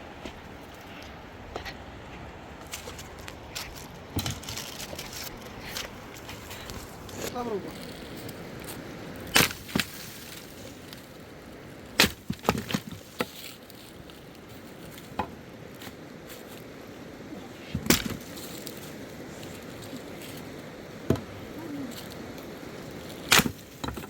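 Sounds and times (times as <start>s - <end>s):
firewood being chopped: 2.6s - 16.7s, 17.6s - 24.0s.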